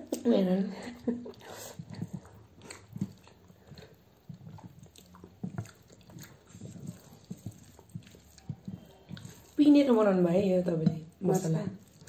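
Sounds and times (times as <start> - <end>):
chewing and eating sounds: 0.0 - 12.0.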